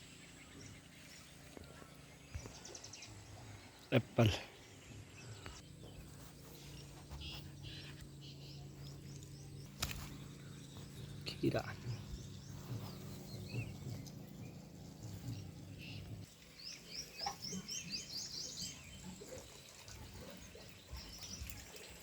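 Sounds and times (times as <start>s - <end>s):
low steady hum: 0.0s - 21.8s
birds chirping: 0.0s - 22.0s.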